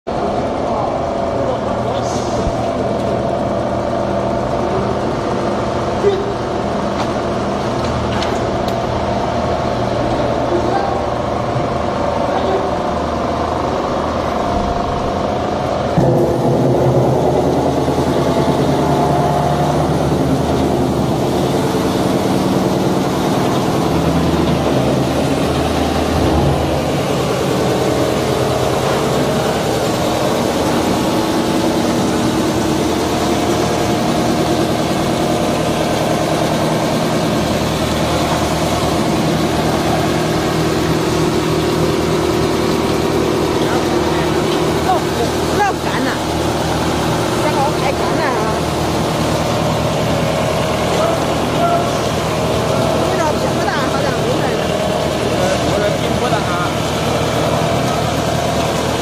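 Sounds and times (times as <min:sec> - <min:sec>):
wood shaving machine running: 0:11.1 - 0:59.0.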